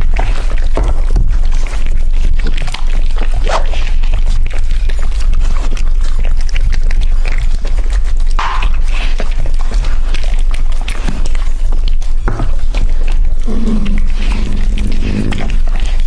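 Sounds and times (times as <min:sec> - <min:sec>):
dogs chewing and licking: 0:00.0 - 0:16.0
low hum: 0:00.0 - 0:16.0.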